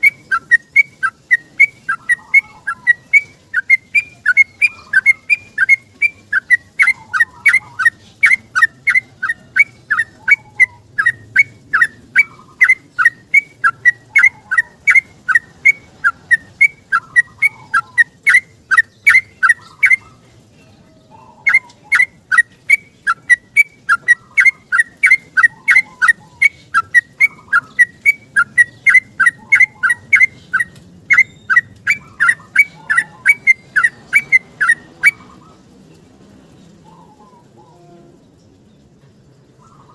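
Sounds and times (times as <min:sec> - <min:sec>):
bird singing whistled notes: 0:00.0 - 0:20.2, 0:21.1 - 0:35.6, 0:36.8 - 0:38.5.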